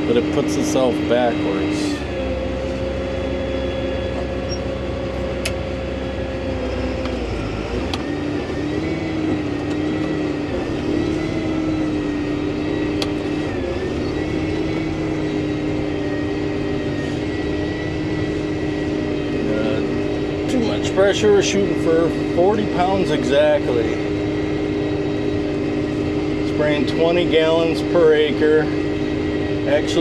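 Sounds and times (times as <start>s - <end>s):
constant high whine: 0.0s - 30.0s
tractor engine hum: 0.0s - 30.0s.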